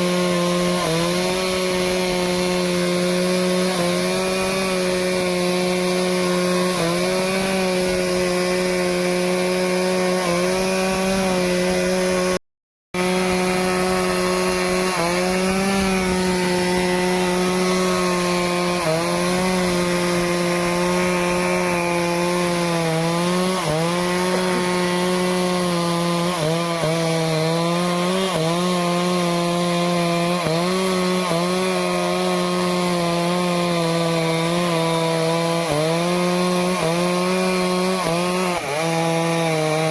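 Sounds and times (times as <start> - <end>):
chainsaw cutting wood: 0.0 - 12.4, 13.0 - 39.9.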